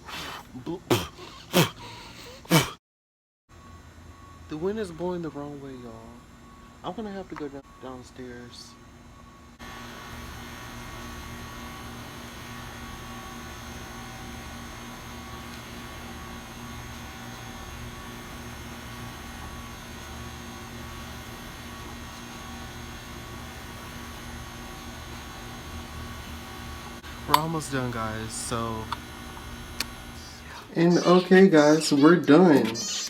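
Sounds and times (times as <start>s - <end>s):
electrical hum with hiss: 3.6s - 32.6s.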